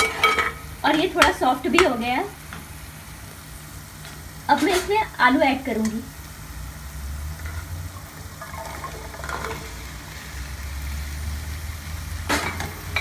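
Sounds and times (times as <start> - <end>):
oil sizzling in frying pan: 0.0 - 13.0.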